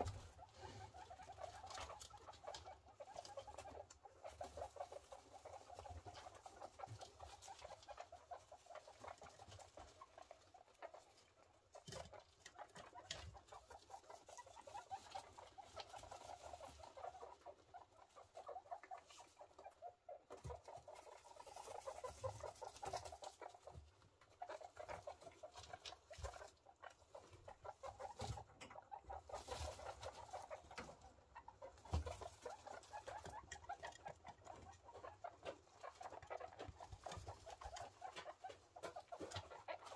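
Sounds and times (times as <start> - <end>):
faint clicks and rustles: 0.0 - 39.9
guinea pigs making pulsing calls: 0.0 - 39.9.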